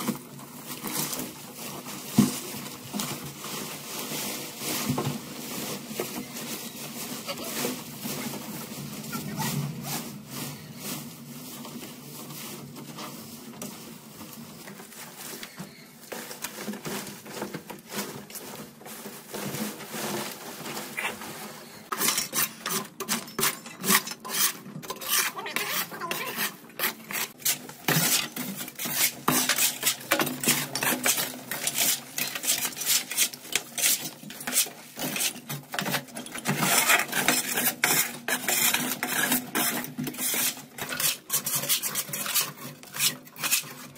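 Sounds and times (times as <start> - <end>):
scraping and clattering: 0.0 - 43.9.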